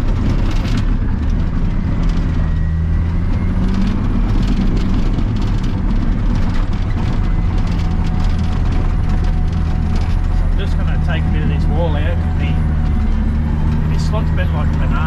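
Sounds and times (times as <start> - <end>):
light clicking and rattling: 0.0 - 14.8
bulldozer diesel engine running: 0.0 - 15.0.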